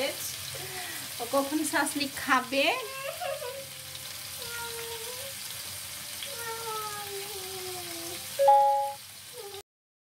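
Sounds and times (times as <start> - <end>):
food sizzling in frying pan: 0.0 - 9.6.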